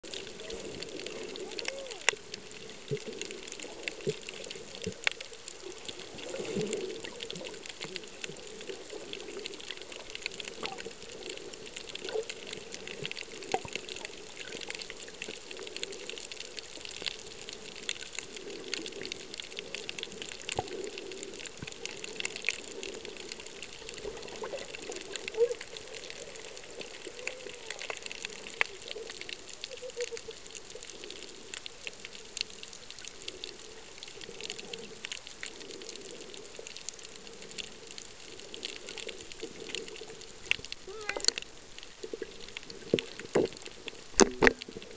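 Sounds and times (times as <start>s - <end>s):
crackling clicks and pops: 0.0s - 44.9s
underwater moving water: 0.0s - 44.9s.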